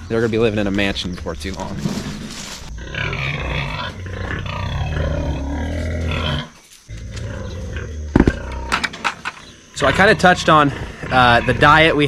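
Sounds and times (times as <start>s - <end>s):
pigs grunting and squealing: 1.7s - 12.0s.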